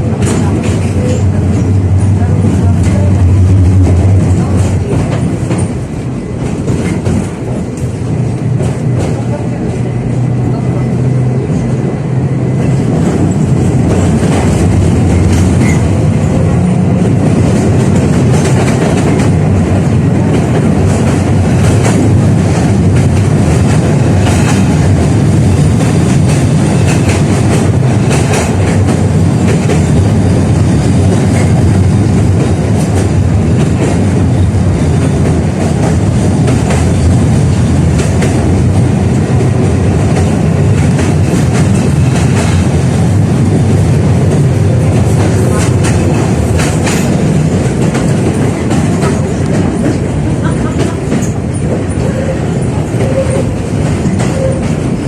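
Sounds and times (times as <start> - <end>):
track clacks and knocks: 0.0 - 55.0
tram wheels rumbling on rail: 0.0 - 55.0.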